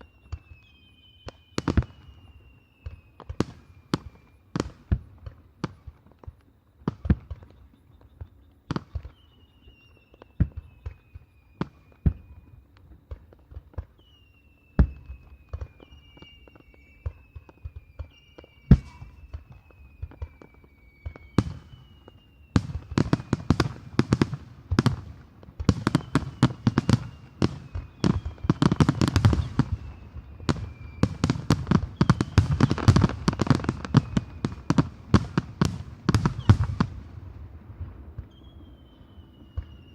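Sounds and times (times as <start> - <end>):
fireworks bursting: 0.0 - 39.9
fireworks whistling: 0.0 - 39.9.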